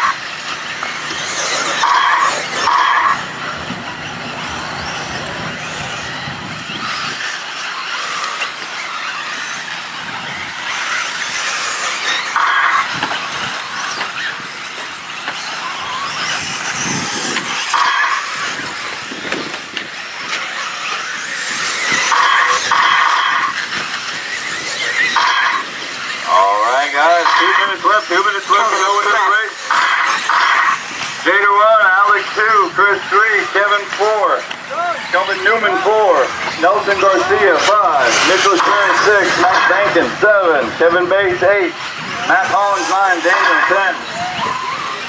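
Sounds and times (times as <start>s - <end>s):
electric motor whines: 0.0s - 45.0s.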